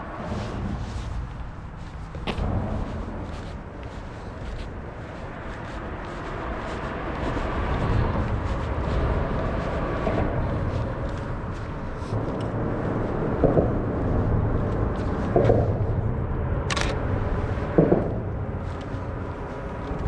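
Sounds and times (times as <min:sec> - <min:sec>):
outdoor background rumble: 0:00.0 - 0:20.0.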